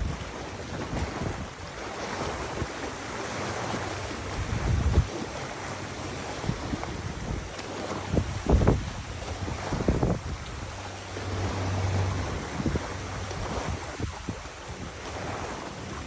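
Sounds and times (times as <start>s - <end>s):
rushing water: 0.0s - 16.0s
wind gusting on microphone: 0.0s - 16.0s.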